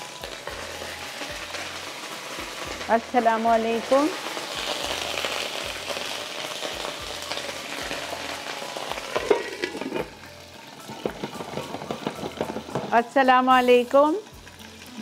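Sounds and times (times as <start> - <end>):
paste sizzling in oil: 0.0 - 15.0.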